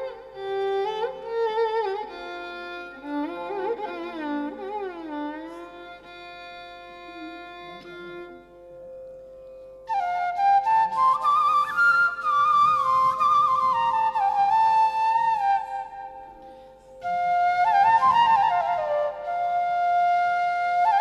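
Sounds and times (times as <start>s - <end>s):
violin playing gliding phrases: 0.0s - 19.7s
flute: 0.0s - 21.0s.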